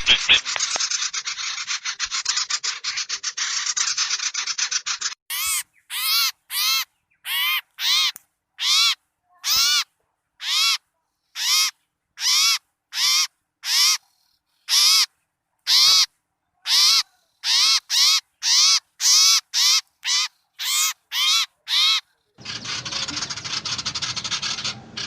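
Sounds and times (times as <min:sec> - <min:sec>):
harsh agitated bird calls: 0:00.0 - 0:25.0.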